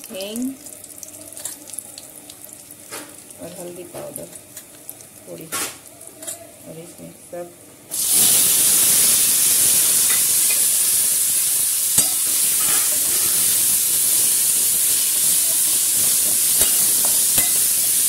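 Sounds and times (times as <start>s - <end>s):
vegetables sizzling in hot oil: 0.0s - 6.7s, 7.9s - 18.0s.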